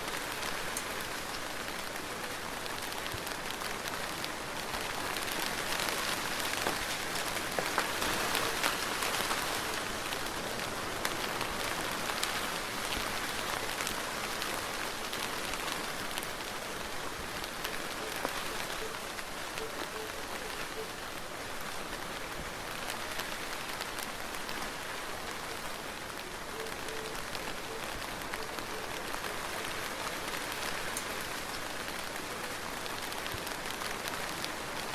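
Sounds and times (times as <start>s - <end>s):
steady soft rain: 0.0s - 34.9s.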